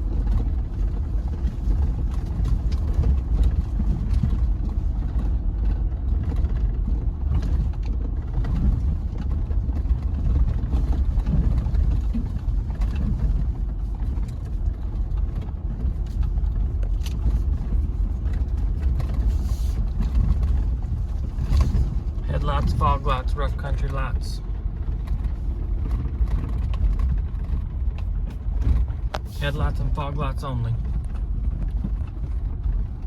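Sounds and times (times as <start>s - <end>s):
engine and tyres rumbling: 0.0s - 33.0s.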